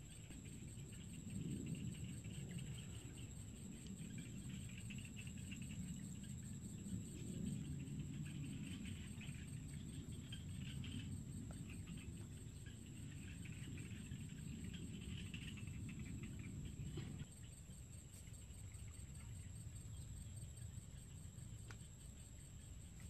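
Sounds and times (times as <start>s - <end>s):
insects chirring: 0.0s - 23.0s
steady low rumble: 0.0s - 23.0s.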